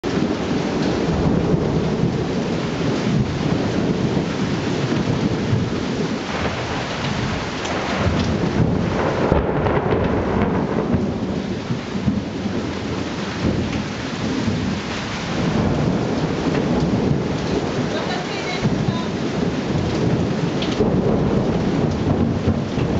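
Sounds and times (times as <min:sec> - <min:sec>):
steady downpour of rain: 0:00.0 - 0:22.9
thunder rumbling: 0:00.0 - 0:22.9.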